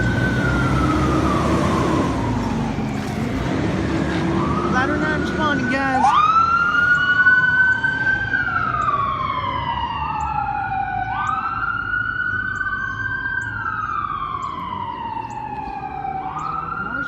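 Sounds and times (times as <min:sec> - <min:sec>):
fire truck sirens wailing: 0:00.0 - 0:17.0.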